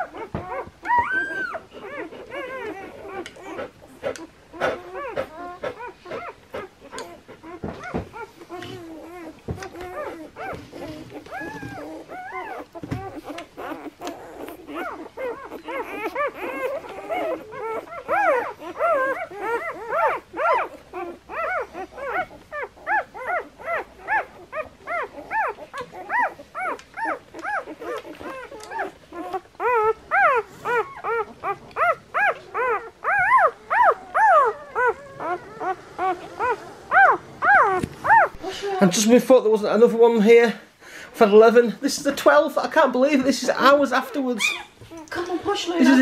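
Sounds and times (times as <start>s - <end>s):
puppies squealing and whining: 0.0s - 46.0s.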